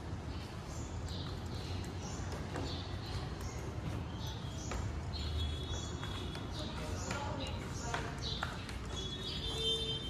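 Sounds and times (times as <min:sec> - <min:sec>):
footsteps on wooden floorboards: 0:01.1 - 0:10.0.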